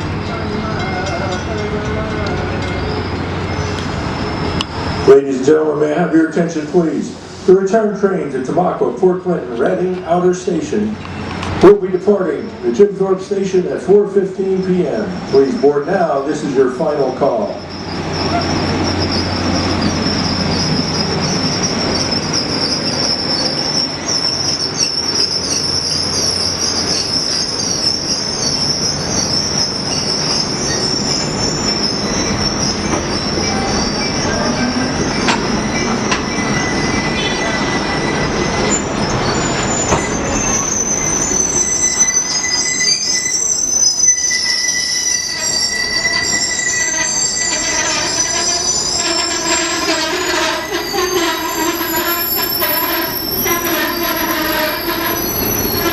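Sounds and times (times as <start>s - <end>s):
train rumble: 0.0s - 55.9s
train wheels squealing: 0.0s - 55.9s.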